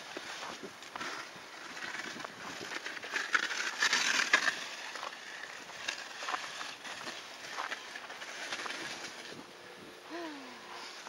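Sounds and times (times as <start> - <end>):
footsteps crunching in snow: 0.0 - 9.4
sled scraping over snow: 0.0 - 9.5.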